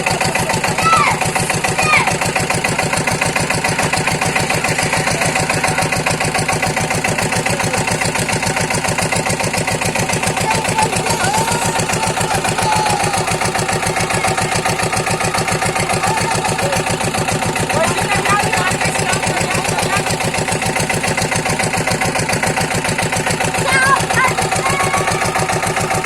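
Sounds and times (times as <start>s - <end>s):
diesel pump engine thudding: 0.0s - 26.0s.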